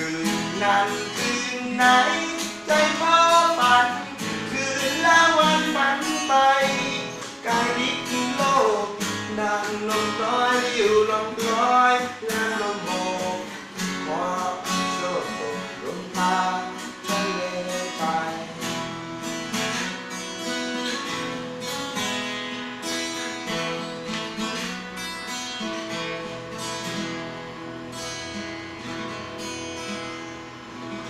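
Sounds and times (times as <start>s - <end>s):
guitar strumming and picking: 0.0s - 31.0s.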